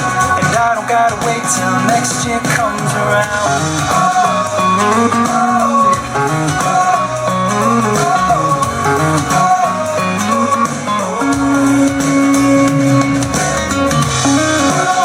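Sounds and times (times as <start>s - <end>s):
guitar melody over bass: 0.0s - 15.0s.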